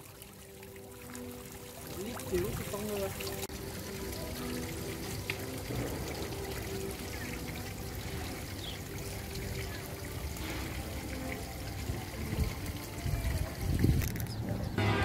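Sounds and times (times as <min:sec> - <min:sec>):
quiet background music: 0:00.0 - 0:15.0
water splashing and trickling: 0:00.0 - 0:15.0.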